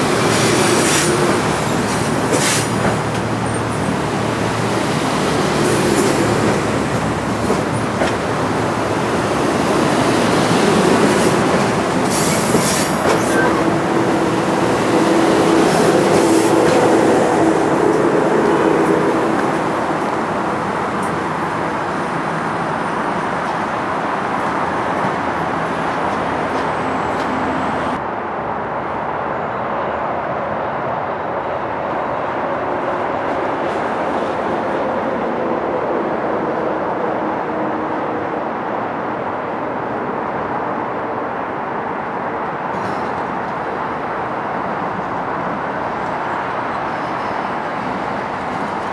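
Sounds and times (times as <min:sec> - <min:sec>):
electric train moving along track: 0:00.0 - 0:48.9.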